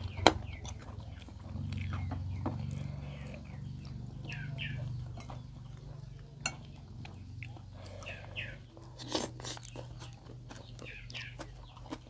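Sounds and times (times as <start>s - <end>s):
bird chirps: 0.0s - 8.8s, 9.7s - 11.9s
steady low hum: 0.0s - 12.0s.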